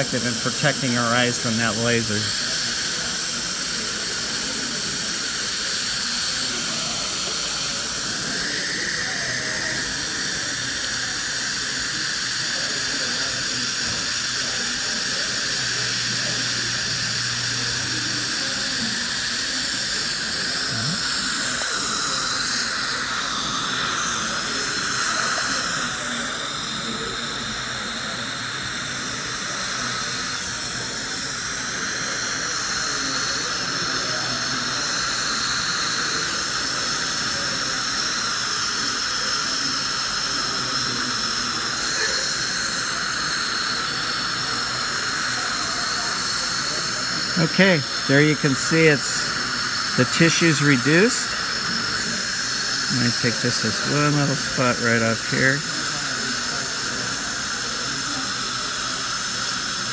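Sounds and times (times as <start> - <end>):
dental suction hissing: 0.0 - 59.9.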